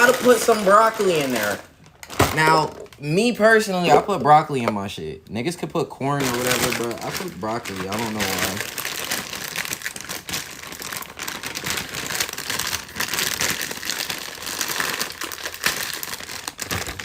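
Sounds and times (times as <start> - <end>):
packaging crinkling and rustling: 0.0 - 4.3, 5.6 - 17.0.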